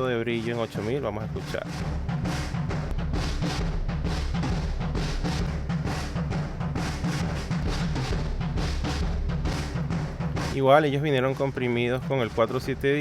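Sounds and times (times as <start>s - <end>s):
drum kit playing steady beat: 0.0s - 13.0s.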